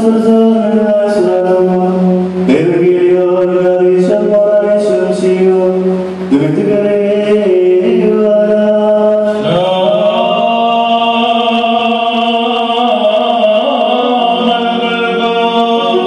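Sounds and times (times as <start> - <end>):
liturgical chant in held notes: 0.0 - 16.0.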